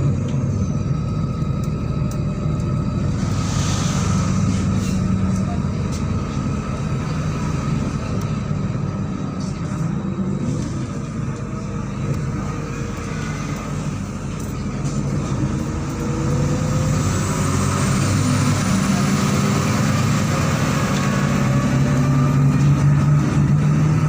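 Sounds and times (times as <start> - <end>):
bus engine accelerating: 0.0 - 24.0.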